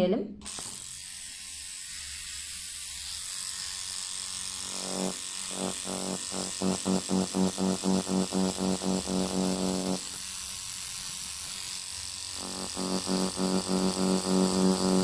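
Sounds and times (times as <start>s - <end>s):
tattoo machine buzzing: 0.4s - 15.0s.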